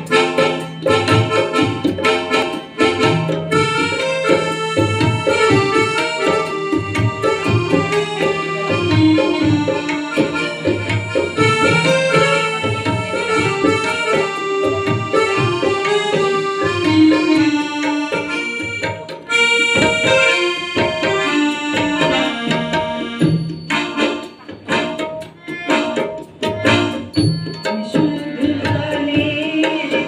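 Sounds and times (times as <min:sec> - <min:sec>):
harmonium and keyboard melody: 0:00.0 - 0:30.0
tabla drumming: 0:00.0 - 0:30.0.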